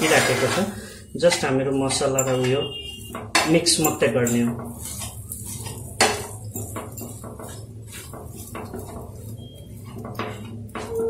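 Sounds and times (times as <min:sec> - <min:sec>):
metal spoon scraping a frying pan: 0:00.0 - 0:11.0.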